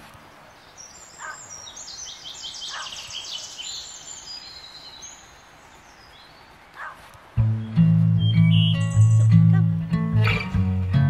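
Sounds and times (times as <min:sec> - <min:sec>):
faint outdoor hiss: 0:00.0 - 0:11.0
songbird singing: 0:00.0 - 0:11.0.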